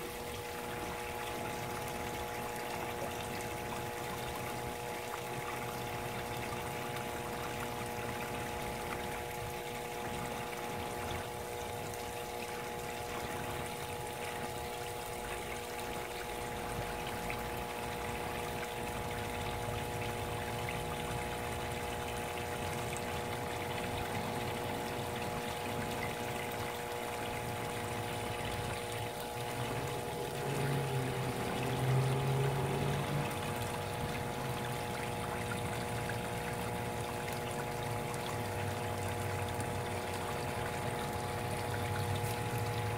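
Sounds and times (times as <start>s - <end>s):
steady hum: 0.0s - 42.9s
water trickling in a pond: 0.0s - 42.9s.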